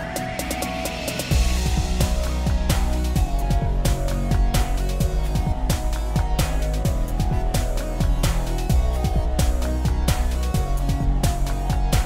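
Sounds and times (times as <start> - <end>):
bass-heavy music with steady beat: 0.0 - 12.0.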